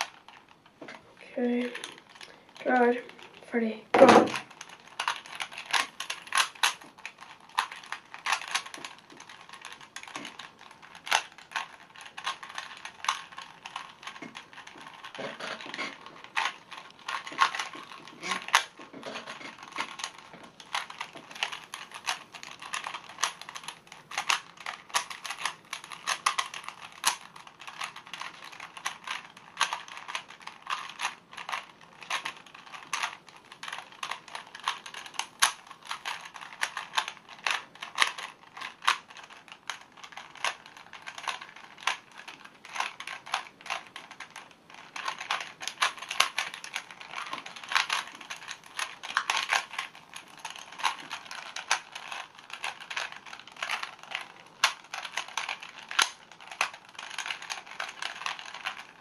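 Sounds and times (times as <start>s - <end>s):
puzzle cube clicking rapidly: 0.0s - 0.8s, 1.4s - 59.0s.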